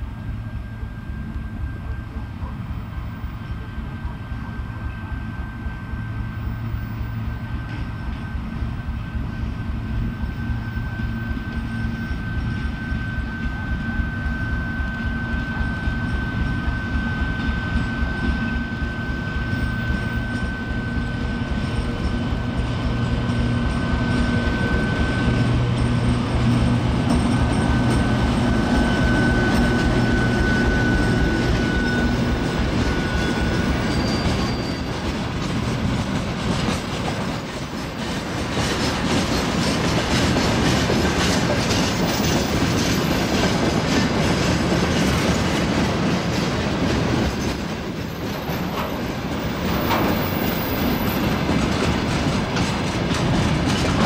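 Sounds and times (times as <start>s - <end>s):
train wheels rumbling and clattering: 0.0s - 54.0s
high wheel squeal: 0.1s - 54.0s.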